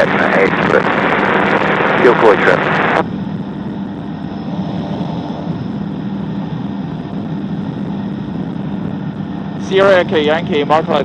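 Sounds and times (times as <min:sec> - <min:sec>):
microlight aircraft engine droning: 0:00.0 - 0:11.0.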